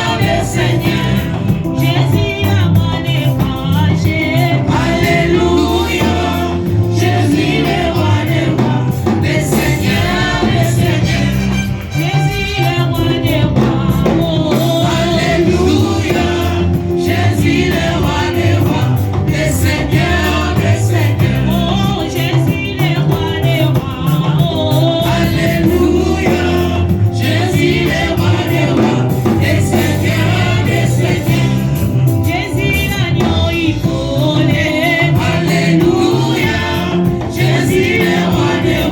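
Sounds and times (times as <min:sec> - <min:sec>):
group singing gospel music: 0:00.0 - 0:38.9
instrumental accompaniment: 0:00.0 - 0:38.9.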